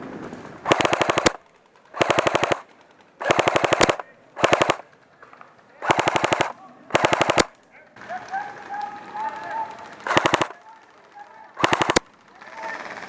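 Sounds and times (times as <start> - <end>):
airsoft rifle firing bursts: 0.6 - 5.1, 5.8 - 13.0.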